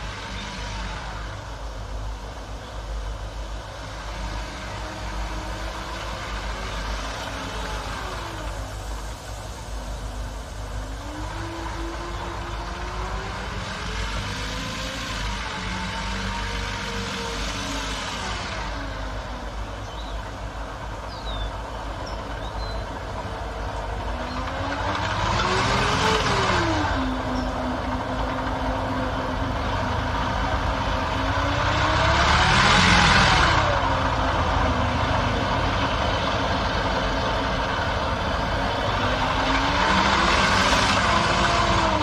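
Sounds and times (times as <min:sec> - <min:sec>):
tracked vehicle engine and tracks: 0:00.0 - 0:42.0.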